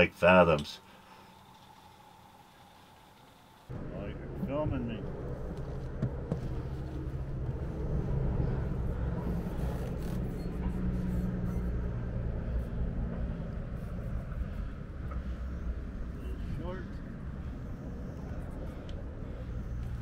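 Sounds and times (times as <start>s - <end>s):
engine running steadily: 0.6s - 20.0s.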